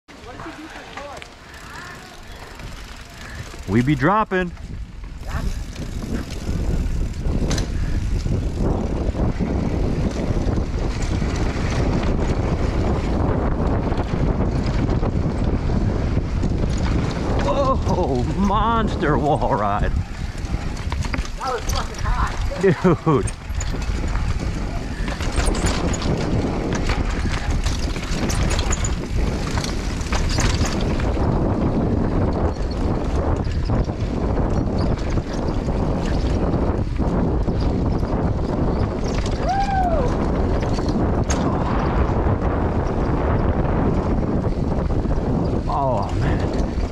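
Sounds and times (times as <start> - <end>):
bike rattles and knocks: 0.1 - 46.9
bike tyres on gravel: 0.1 - 46.9
wind buffeting microphone: 0.1 - 46.9.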